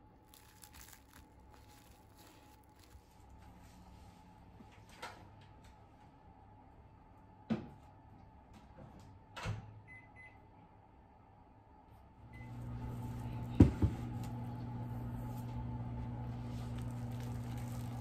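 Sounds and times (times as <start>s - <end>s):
microwave oven humming: 0.0s - 18.0s.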